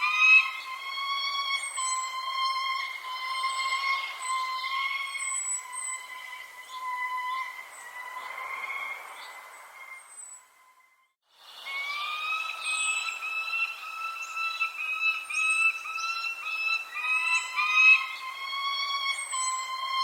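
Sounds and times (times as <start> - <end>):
birds chirping: 0.0 - 20.0
steady whistle-like tone: 0.3 - 20.0.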